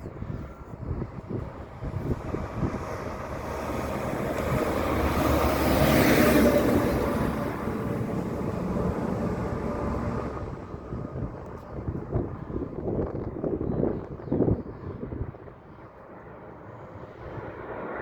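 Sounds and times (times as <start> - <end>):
airliner jet engines overhead: 0.0 - 18.0
wind rumbling on microphone: 0.0 - 18.0.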